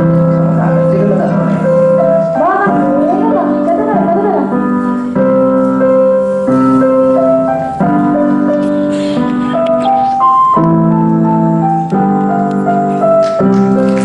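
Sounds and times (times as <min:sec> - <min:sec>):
keyboard chords and slow melody: 0:00.0 - 0:14.0.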